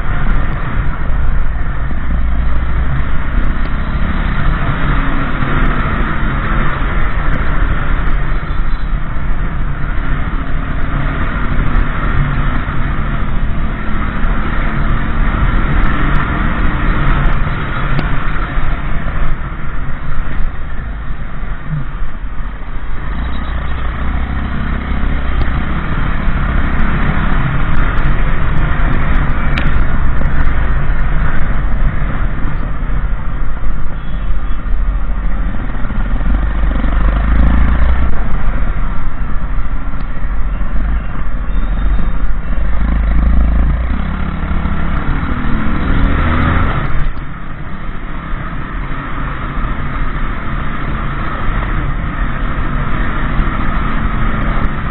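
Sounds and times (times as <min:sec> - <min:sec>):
wind noise on microphone: 0:00.0 - 0:54.9.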